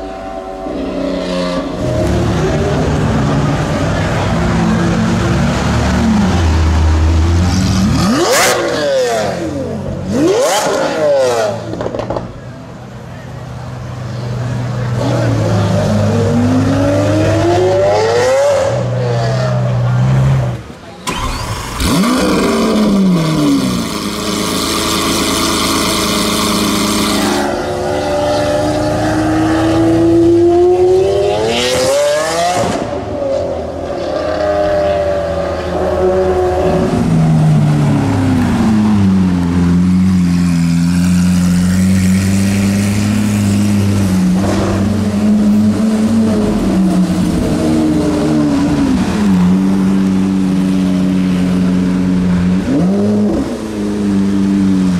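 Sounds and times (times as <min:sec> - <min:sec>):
loud car engine revving: 0:00.0 - 0:12.4, 0:14.1 - 0:54.9.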